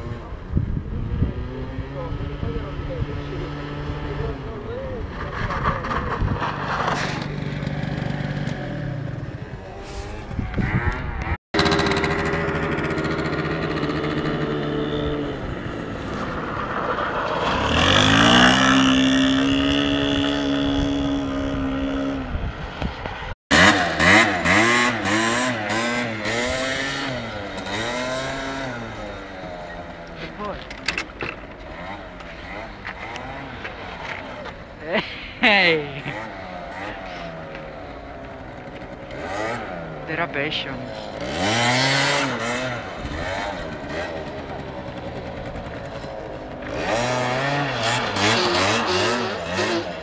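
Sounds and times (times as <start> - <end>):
scooter engine revving: 0.0 - 22.7, 23.5 - 50.0.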